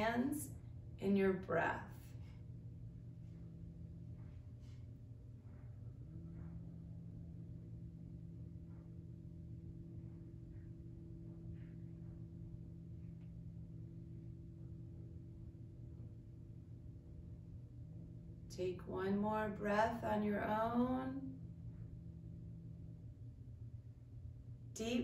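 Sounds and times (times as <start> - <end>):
low singing bowl drone: 0.0 - 25.0.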